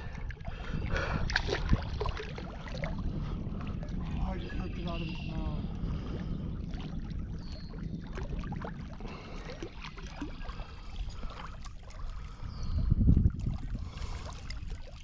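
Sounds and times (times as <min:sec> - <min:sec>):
water around boat hull: 0:00.0 - 0:15.0
wind on microphone: 0:00.0 - 0:15.0.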